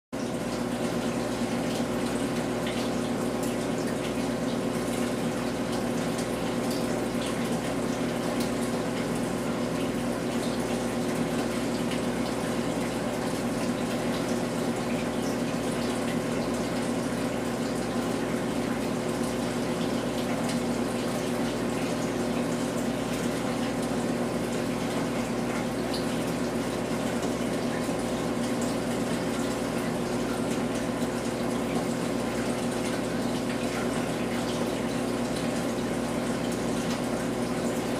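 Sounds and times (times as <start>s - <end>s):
low pump hum: 0.2s - 37.9s
running water: 0.2s - 37.9s.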